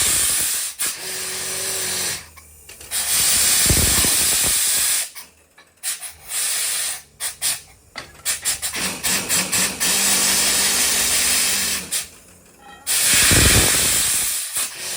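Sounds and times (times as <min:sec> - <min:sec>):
compressed air blasts hissing: 0:00.0 - 0:02.2, 0:02.9 - 0:05.2, 0:05.8 - 0:12.1, 0:12.9 - 0:14.9.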